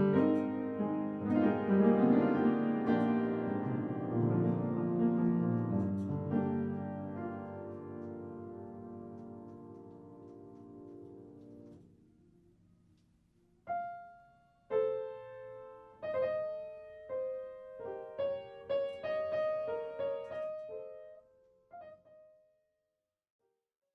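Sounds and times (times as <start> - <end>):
slow piano melody: 0.0 - 12.6, 13.4 - 22.6.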